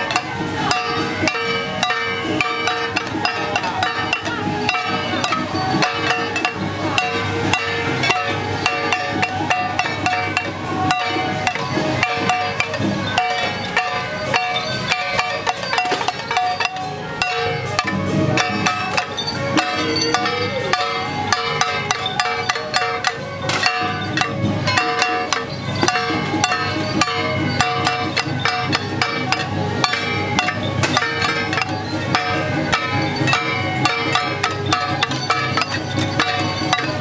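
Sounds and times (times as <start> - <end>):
rapid clacking percussion: 0.0 - 37.0
sustained tones: 0.0 - 37.0.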